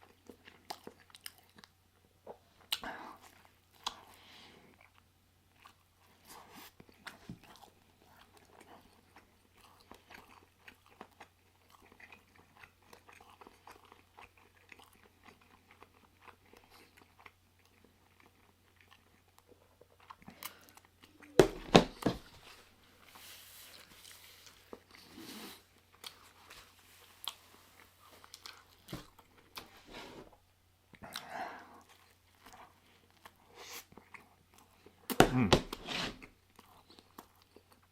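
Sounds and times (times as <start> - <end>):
chewing and lip smacking: 0.0 - 1.8, 2.5 - 21.4, 25.7 - 29.6, 30.9 - 35.2, 36.3 - 37.9.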